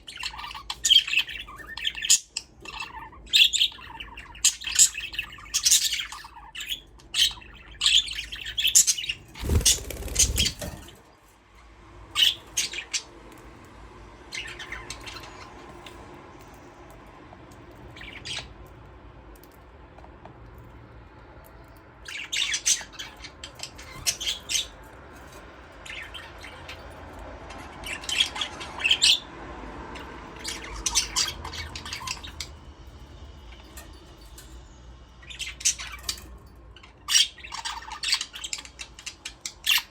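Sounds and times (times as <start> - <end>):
budgerigars chirping and squawking: 0.0 - 11.1, 12.2 - 13.2, 14.2 - 16.7, 17.6 - 18.7, 21.9 - 39.9.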